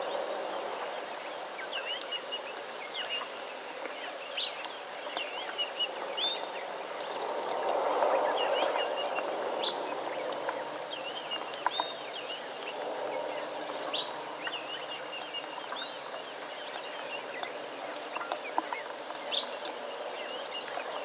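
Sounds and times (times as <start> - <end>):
birds chirping: 0.0 - 21.0
steady rain falling on water: 0.0 - 21.0.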